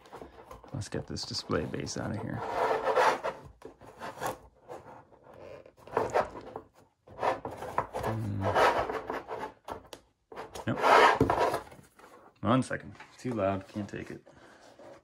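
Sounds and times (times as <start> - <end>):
rubbing and scraping: 0.0 - 12.4.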